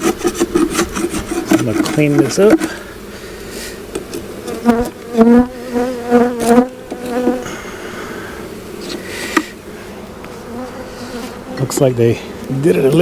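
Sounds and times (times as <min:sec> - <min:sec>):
honeybees buzzing: 0:00.0 - 0:13.0
loud wavering bee buzz: 0:00.0 - 0:13.0.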